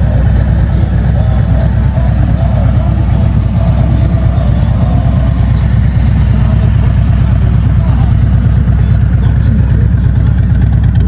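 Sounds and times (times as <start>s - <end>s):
motorcycle engine deep rumble: 0.0s - 11.0s.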